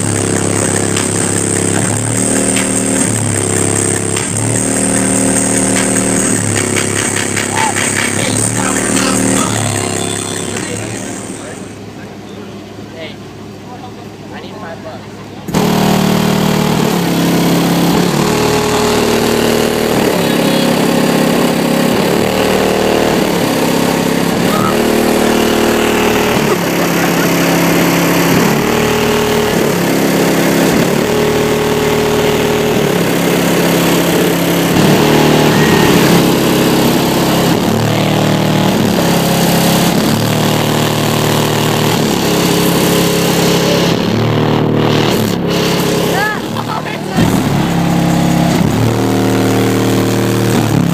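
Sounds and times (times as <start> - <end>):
bass-heavy car audio: 0.0 - 50.9.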